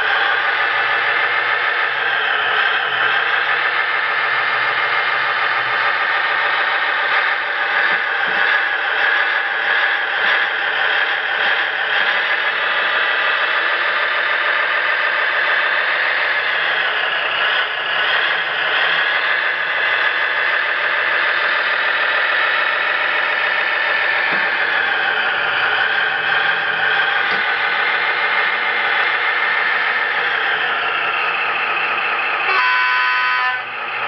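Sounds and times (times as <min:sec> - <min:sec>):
simulated engine through small speaker: 0:00.0 - 0:34.0.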